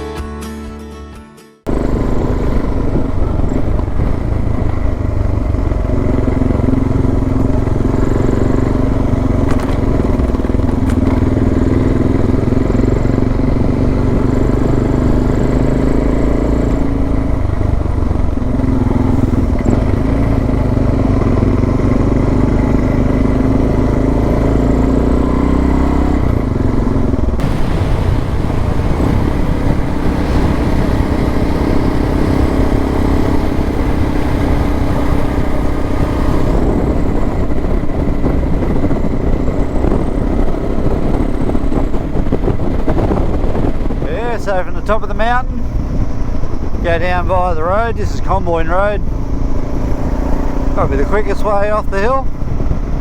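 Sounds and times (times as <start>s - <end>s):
motorcycle engine running: 1.7s - 53.0s.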